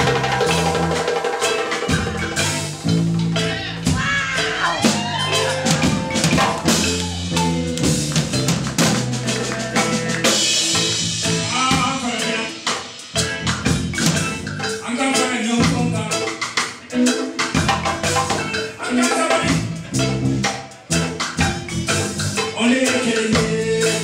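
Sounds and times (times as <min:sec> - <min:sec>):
drum kit: 0:00.0 - 0:24.0
electric guitar: 0:00.0 - 0:24.0
wooden xylophones: 0:00.0 - 0:24.0.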